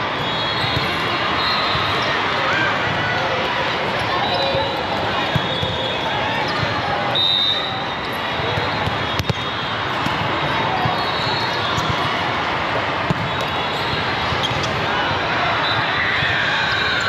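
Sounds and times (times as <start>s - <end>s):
din of players and spectators: 0.0s - 17.0s.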